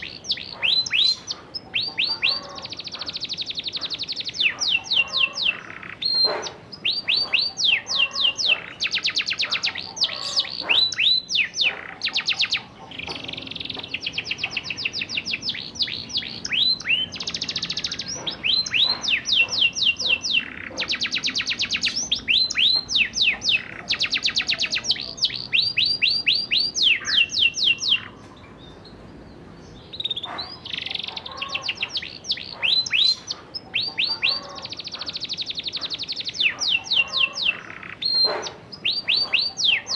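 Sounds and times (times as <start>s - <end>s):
canary singing rapid trills: 0.0s - 29.0s, 29.6s - 39.9s.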